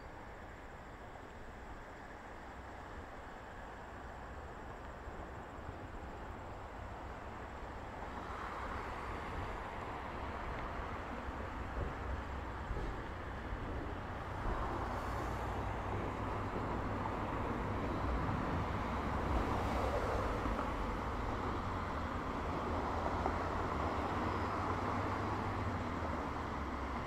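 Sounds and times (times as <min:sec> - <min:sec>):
cars passing on road: 0:00.0 - 0:27.0.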